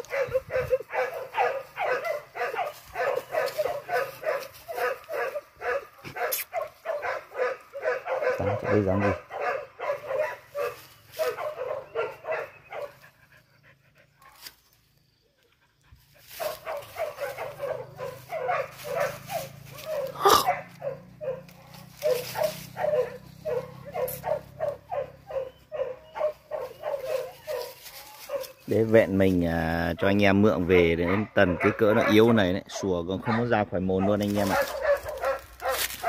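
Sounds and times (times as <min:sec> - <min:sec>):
dog barking: 0:00.0 - 0:13.0, 0:16.4 - 0:28.6, 0:30.0 - 0:36.0.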